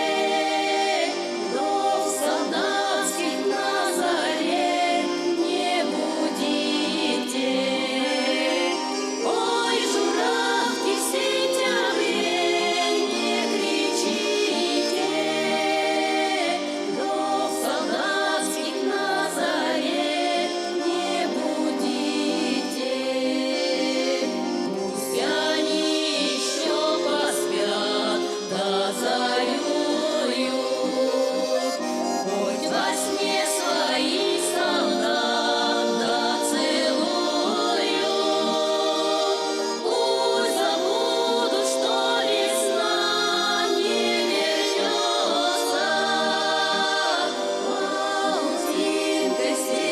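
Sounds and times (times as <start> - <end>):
instrumental accompaniment: 0.0 - 49.9
voices singing together: 0.0 - 49.9.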